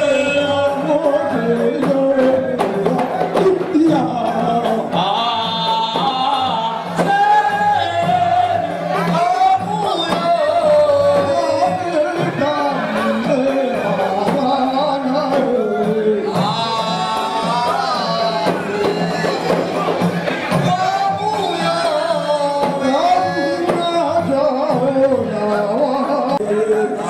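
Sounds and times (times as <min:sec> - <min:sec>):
man singing through pa: 0:00.0 - 0:27.0.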